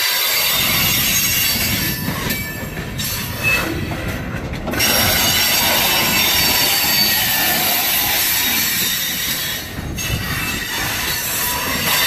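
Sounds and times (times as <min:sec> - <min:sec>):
steel wheels squealing on rail: 0:00.0 - 0:12.0
low rumble of wheels on track: 0:00.2 - 0:12.0.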